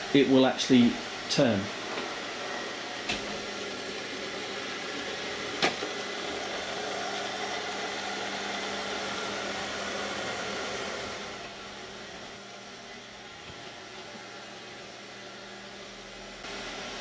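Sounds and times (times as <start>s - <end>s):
robotic vacuum cleaner whirring: 0.0s - 17.0s.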